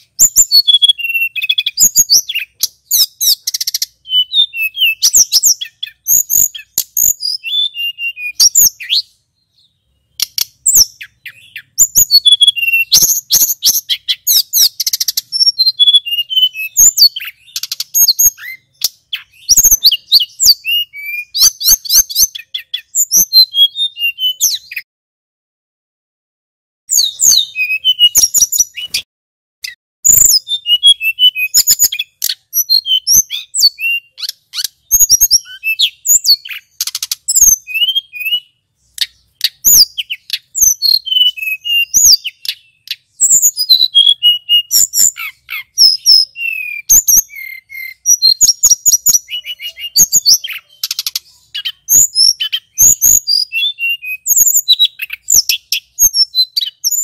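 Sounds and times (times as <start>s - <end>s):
bird singing whistled phrases and trills: 0.0s - 24.9s, 26.9s - 57.0s.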